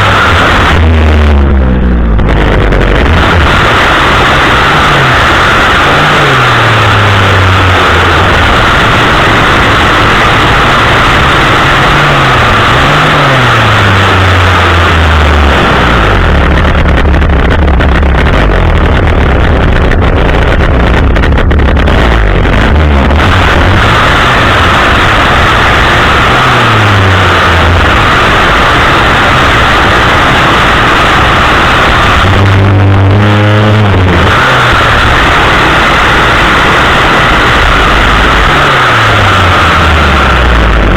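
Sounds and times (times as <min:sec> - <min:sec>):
pole chainsaw engine revving: 0:00.0 - 0:40.9.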